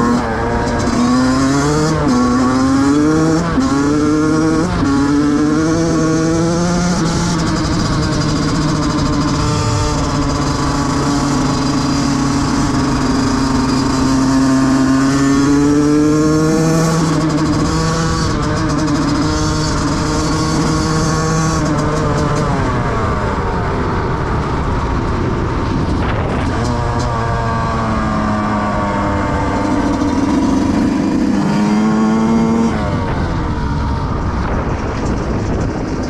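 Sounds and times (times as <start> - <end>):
two-stroke engine revving: 0.0 - 36.0.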